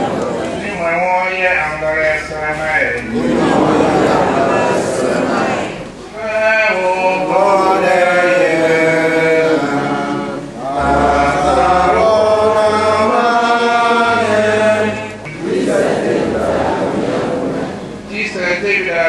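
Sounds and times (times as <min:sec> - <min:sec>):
sung liturgical chant: 0:00.0 - 0:19.0.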